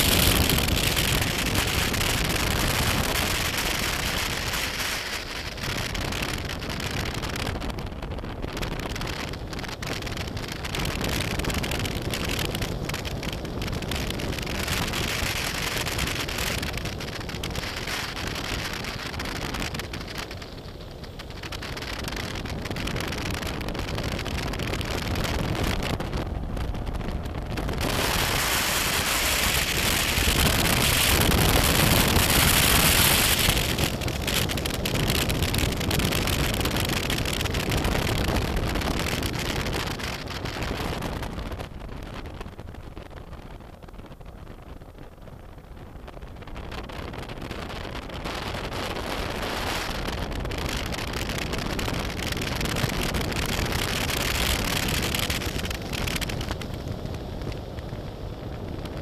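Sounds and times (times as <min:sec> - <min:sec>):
wind rush and tyre noise: 0:00.0 - 0:59.0.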